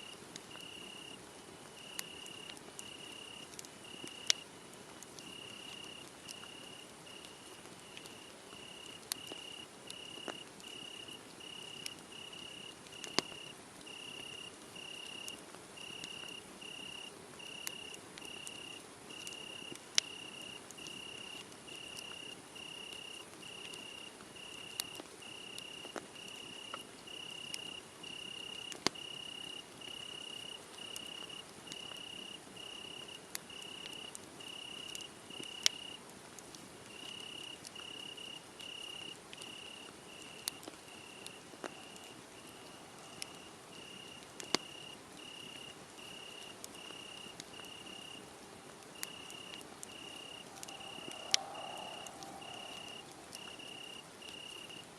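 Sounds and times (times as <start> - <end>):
cricket chirping: 0.0 - 1.2, 1.8 - 4.5, 5.2 - 36.0, 36.9 - 48.3, 49.0 - 54.9
wood fire hissing and crackling: 0.0 - 54.9.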